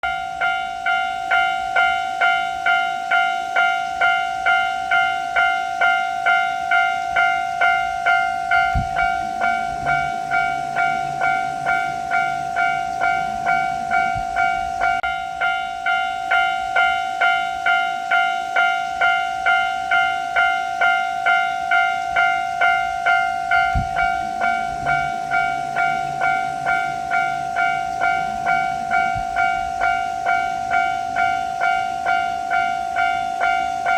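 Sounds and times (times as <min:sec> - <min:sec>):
level-crossing warning bell ringing: 0:00.0 - 0:33.9.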